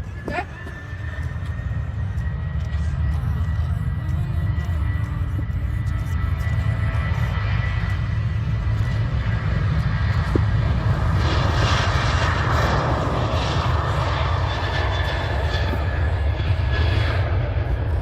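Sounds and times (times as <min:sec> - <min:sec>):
jet airliner taking off: 0:00.0 - 0:18.0.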